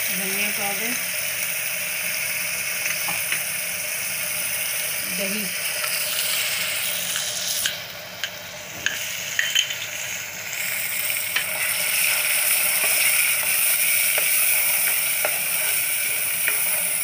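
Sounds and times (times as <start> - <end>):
yogurt sizzling in hot oil: 0.0 - 17.0.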